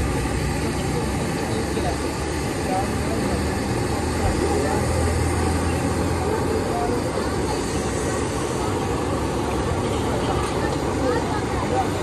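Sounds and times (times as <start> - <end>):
oil sizzling in wok: 0.0 - 12.0
street noise: 0.0 - 12.0.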